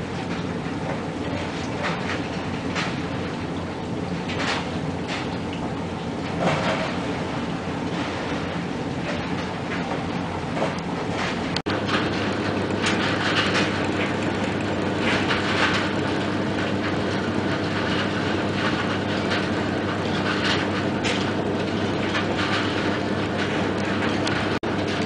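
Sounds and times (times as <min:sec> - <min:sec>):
machinery clattering: 0:00.0 - 0:25.0
machinery hum: 0:00.0 - 0:25.0.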